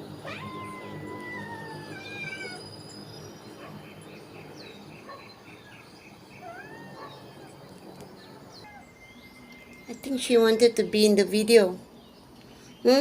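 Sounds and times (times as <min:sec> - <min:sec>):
faint bird chirps and calls: 0:00.0 - 0:13.0.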